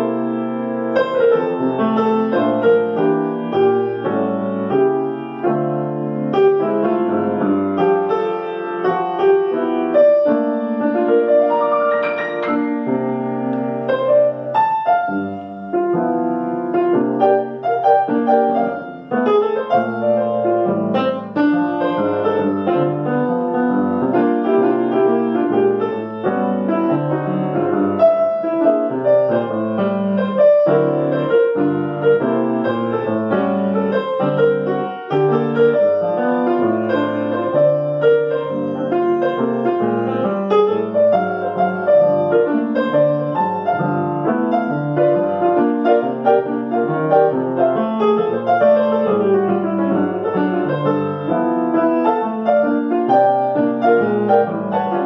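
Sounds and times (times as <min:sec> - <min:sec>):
grand piano playing solo: 0:00.0 - 0:55.0.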